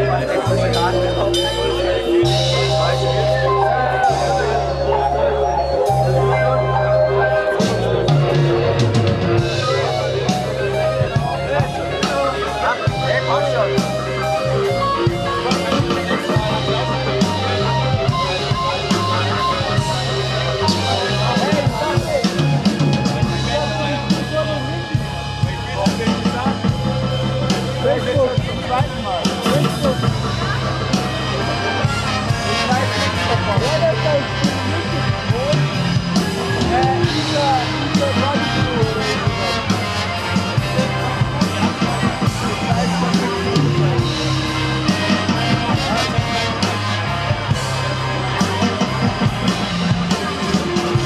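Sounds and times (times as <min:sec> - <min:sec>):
bass guitar: 0:00.0 - 0:51.0
drum kit: 0:00.0 - 0:51.0.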